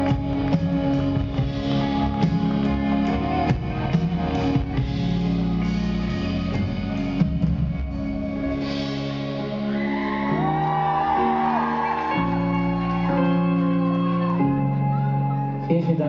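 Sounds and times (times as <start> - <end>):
guitars: 0.0 - 16.0
live pop band playing: 0.0 - 16.0.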